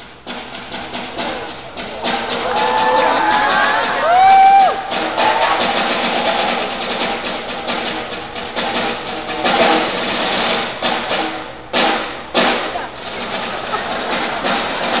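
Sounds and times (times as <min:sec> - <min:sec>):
fast dense drumming: 0:00.0 - 0:15.0.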